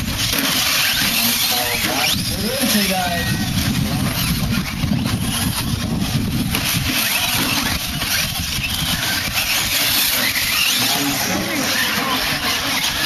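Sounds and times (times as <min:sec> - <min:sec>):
rc trucks racing on dirt: 0:00.0 - 0:13.0.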